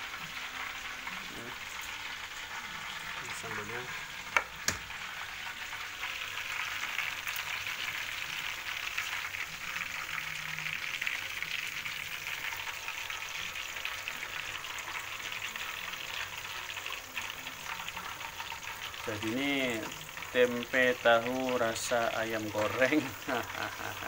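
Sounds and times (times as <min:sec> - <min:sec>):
food deep-frying in oil: 0:00.0 - 0:24.0.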